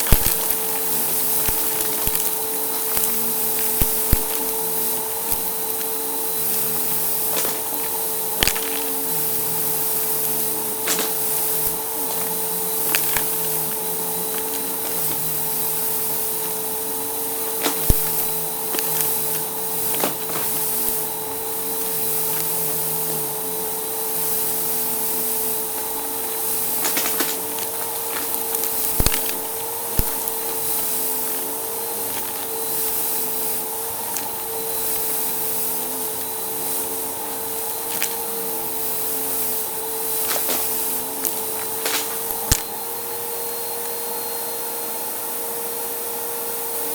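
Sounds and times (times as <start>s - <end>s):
debris crunching in vacuum: 0.0s - 46.9s
vacuum cleaner motor whine: 0.0s - 46.9s.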